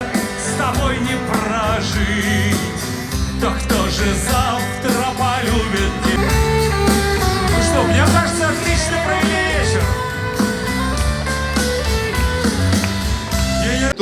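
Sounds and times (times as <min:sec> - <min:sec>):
person singing: 0:00.0 - 0:11.0, 0:13.3 - 0:14.0
upbeat music with steady beat: 0:00.0 - 0:14.0.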